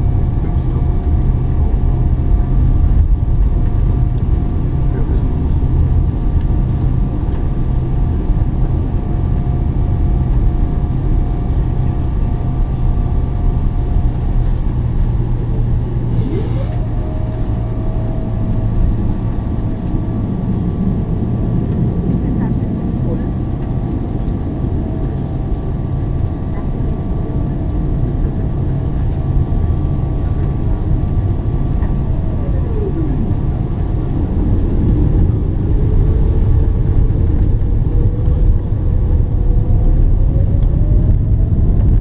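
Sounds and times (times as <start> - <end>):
engine whine: 0.0 - 42.0
jet engines low rumble: 0.0 - 42.0.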